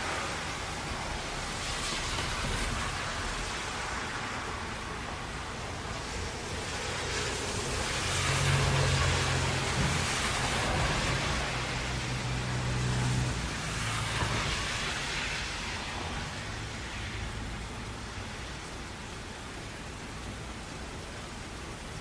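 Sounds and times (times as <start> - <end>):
vehicle passing on wet road: 0.0 - 21.9
steady rain: 0.0 - 22.0.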